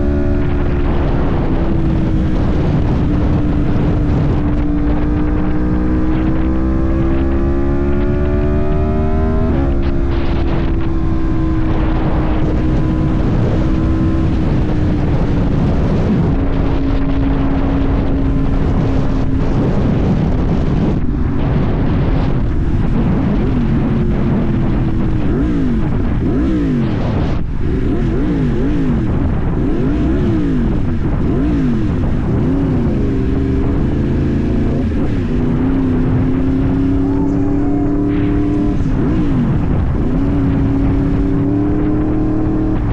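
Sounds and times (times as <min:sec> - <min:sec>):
motorcycle engine revving: 0:00.0 - 0:42.9
wind rushing over microphone: 0:00.0 - 0:42.9.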